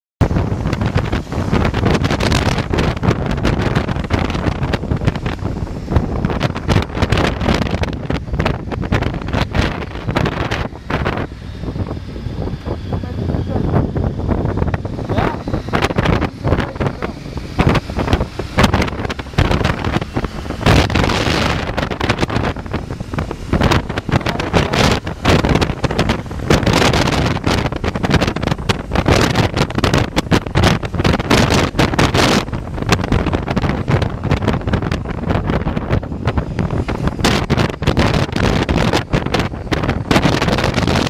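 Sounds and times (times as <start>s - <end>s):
motorcycle engine running: 0.2s - 41.0s
wind buffeting microphone: 0.2s - 41.0s.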